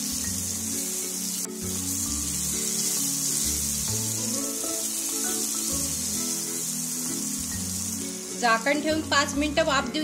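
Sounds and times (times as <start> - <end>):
background music: 0.0 - 10.0
mango frying in oil: 0.0 - 10.0.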